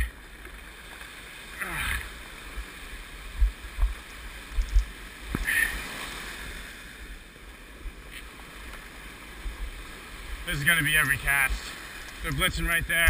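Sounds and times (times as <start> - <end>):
surf washing on shore: 0.0 - 13.0.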